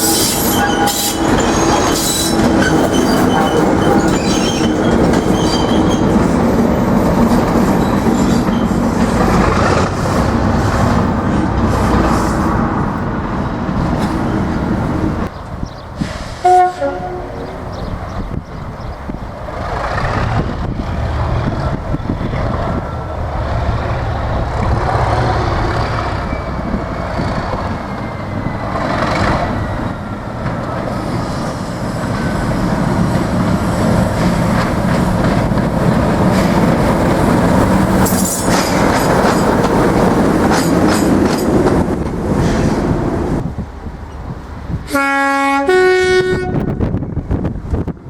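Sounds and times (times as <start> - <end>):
diesel locomotive engine rumbling: 0.0 - 48.0.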